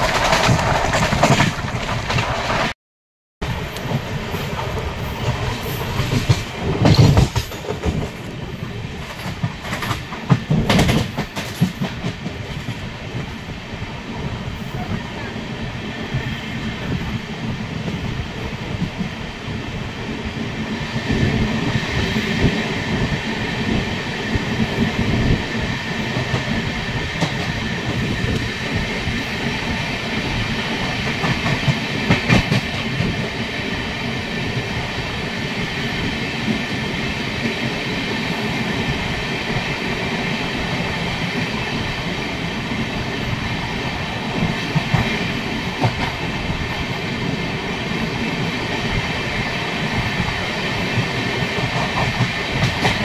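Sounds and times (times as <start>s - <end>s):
train rumbling on rails: 0.0s - 2.8s, 3.4s - 53.0s.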